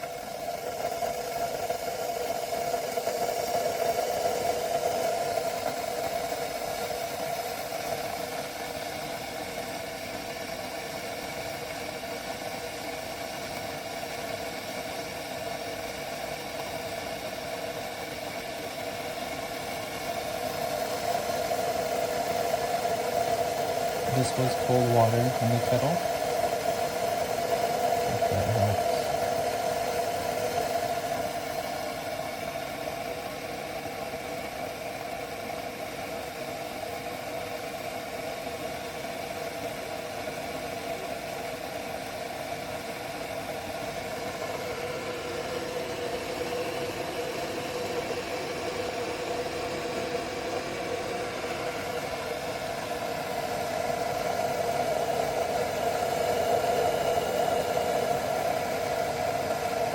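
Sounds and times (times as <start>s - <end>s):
electric kettle heating water: 0.0s - 59.9s.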